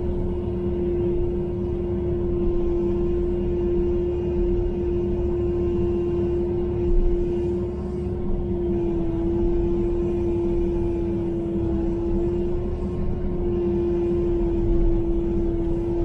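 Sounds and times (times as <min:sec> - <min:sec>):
constant high hum: 0:00.0 - 0:16.0
excavator diesel engine drone: 0:00.0 - 0:16.0.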